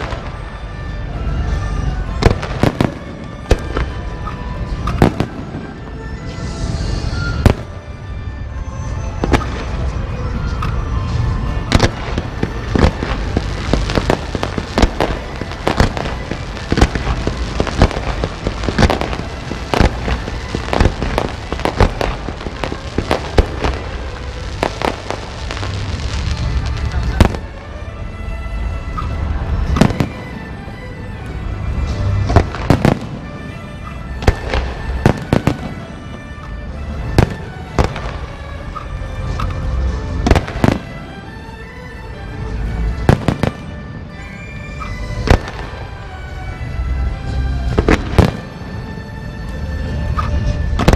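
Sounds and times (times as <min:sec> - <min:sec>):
fireworks and firecrackers banging: 0:00.0 - 0:50.9
music: 0:00.0 - 0:50.9.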